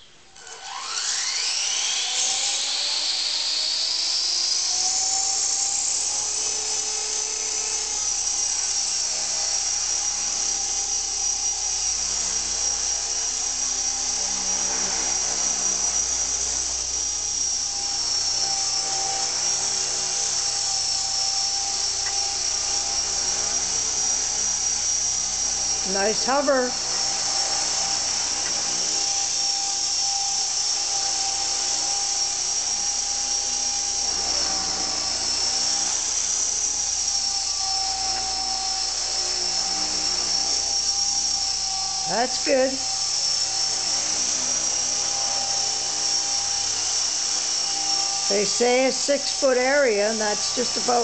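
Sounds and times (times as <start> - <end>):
rc helicopter motor and rotor whine: 0.0 - 51.0.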